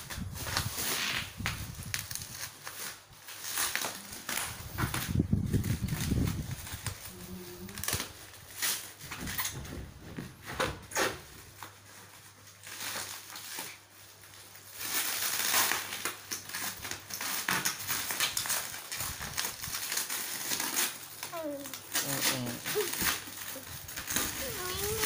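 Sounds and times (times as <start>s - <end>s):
plastic wrap crinkling: 0.0s - 25.0s.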